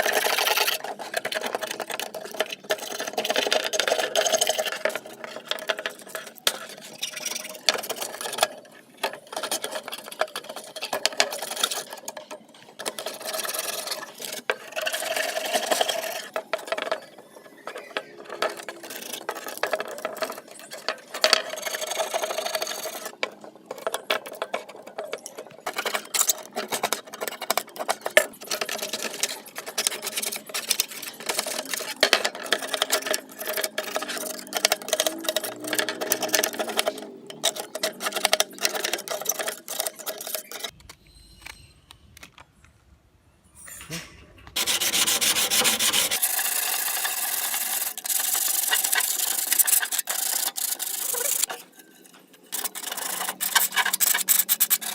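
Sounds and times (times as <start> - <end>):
tool clattering and scraping: 0.0 - 41.8, 43.6 - 46.3, 46.9 - 54.9.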